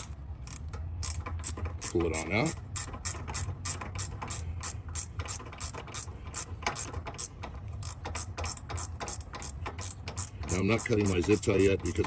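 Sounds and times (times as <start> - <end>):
ratcheting wrench clicking: 0.0 - 12.0.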